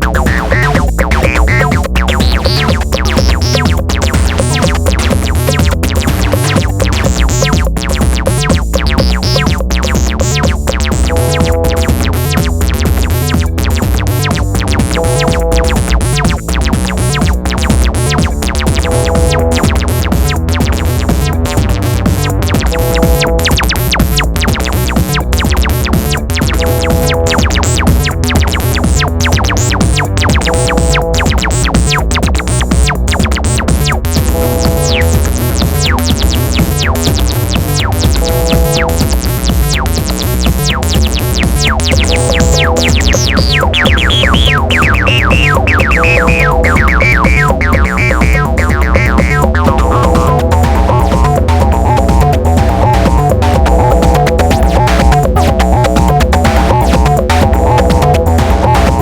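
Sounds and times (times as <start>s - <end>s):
electronic drum hits: 0.0s - 59.0s
heavy bass: 0.0s - 59.0s
synthesizer acid pattern: 0.0s - 59.0s.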